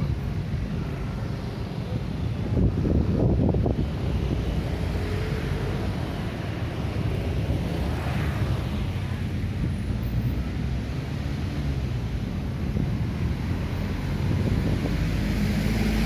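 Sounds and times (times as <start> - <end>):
passing vehicles rumbling: 0.0 - 16.0
wind buffeting microphone: 2.2 - 16.0.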